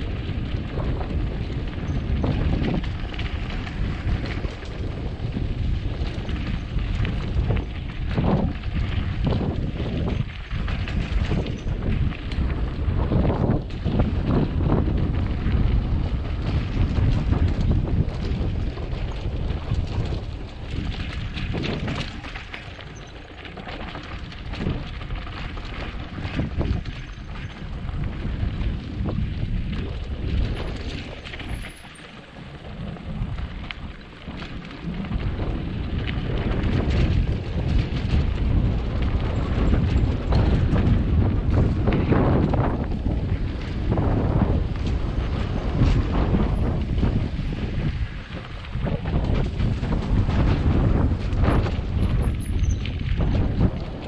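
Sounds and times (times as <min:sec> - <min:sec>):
bike rattling on dirt trail: 0:00.0 - 0:54.0
wind buffeting microphone: 0:00.0 - 0:54.0.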